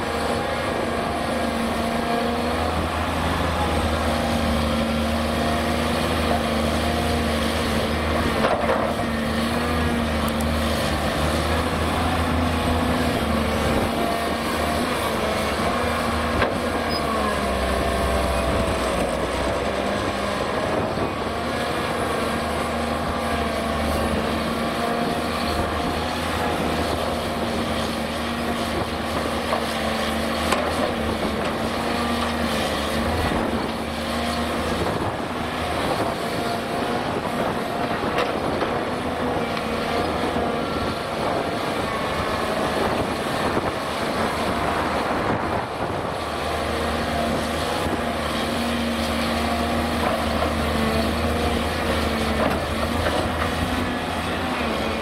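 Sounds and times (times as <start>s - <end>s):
excavator diesel engine working: 0.0s - 55.0s.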